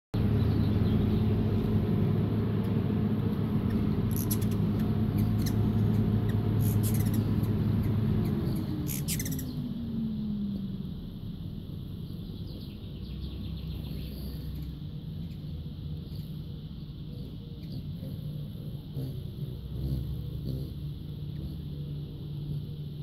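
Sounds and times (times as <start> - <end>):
hummingbird chip notes: 0.2 - 23.0
hummingbird wings humming: 0.2 - 23.0.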